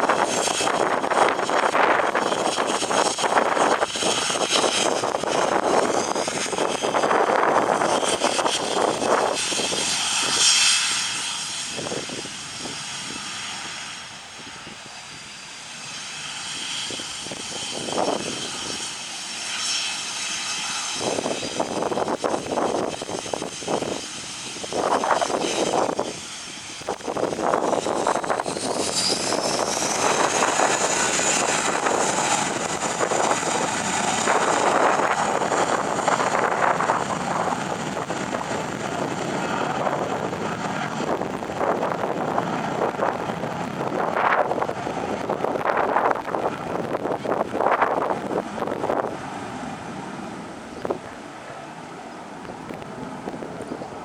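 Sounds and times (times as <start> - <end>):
high turbine whine: 0.0 - 54.0
jet engines running: 0.0 - 54.0.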